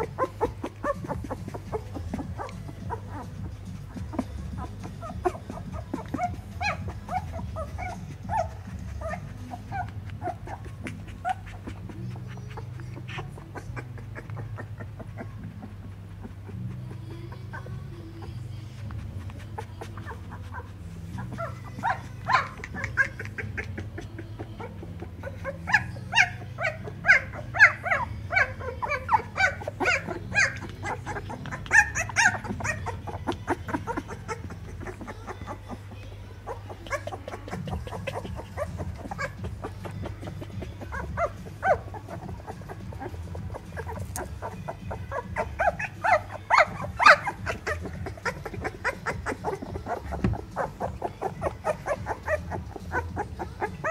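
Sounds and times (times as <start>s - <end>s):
puppies squeaking and whimpering: 0.0s - 53.9s.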